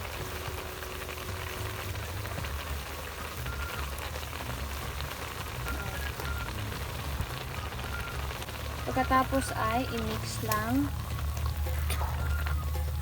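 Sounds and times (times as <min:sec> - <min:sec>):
mushrooms simmering in water: 0:00.0 - 0:13.0.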